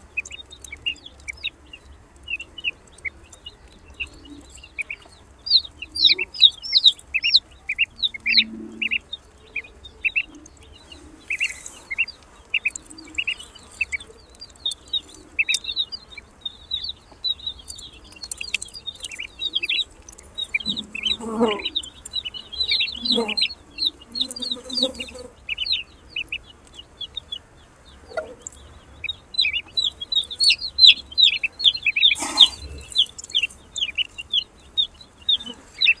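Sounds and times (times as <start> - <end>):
ducklings peeping: 0.0 - 36.0.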